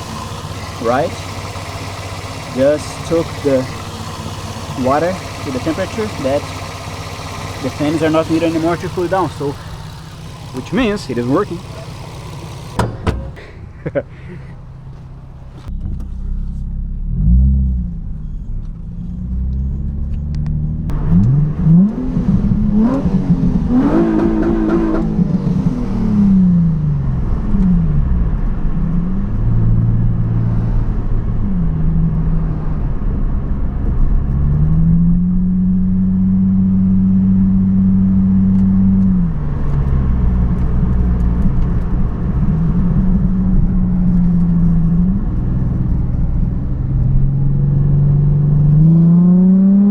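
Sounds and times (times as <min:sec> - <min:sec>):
car engine pulling through gears: 0:00.0 - 0:49.9.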